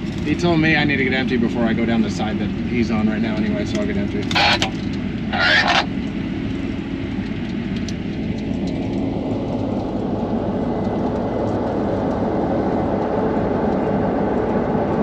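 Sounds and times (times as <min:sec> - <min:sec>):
combine harvester rumble: 0:00.0 - 0:15.0.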